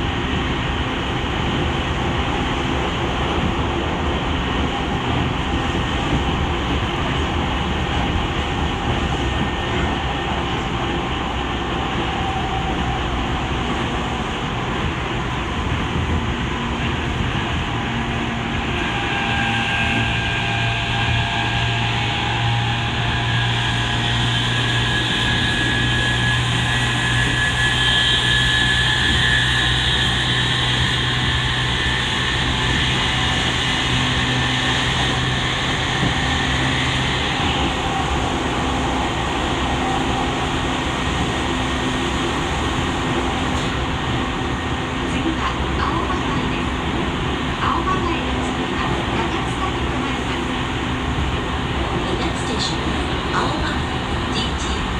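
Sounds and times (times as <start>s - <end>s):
train wheels rumbling on rail: 0.0s - 54.9s
whining traction motor hum: 0.1s - 54.9s.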